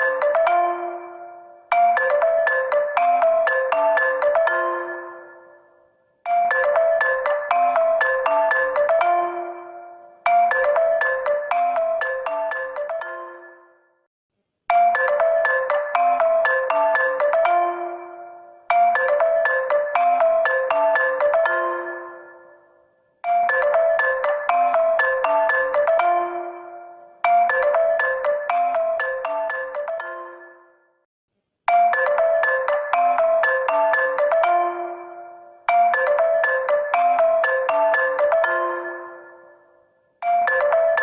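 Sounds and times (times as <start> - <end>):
smartphone ringtone melody: 0.0 - 14.1, 14.7 - 31.0, 31.7 - 41.0.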